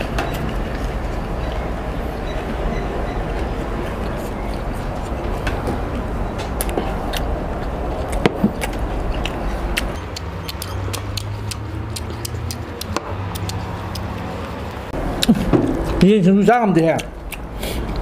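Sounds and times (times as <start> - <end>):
crunchy chewing: 0.0 - 16.0
low engine-like hum: 0.0 - 16.4.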